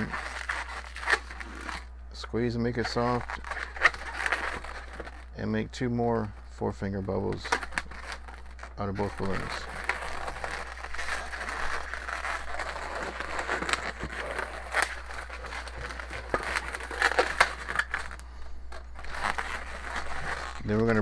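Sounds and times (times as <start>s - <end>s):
balloons rubbing and crinkling: 0.0s - 21.0s.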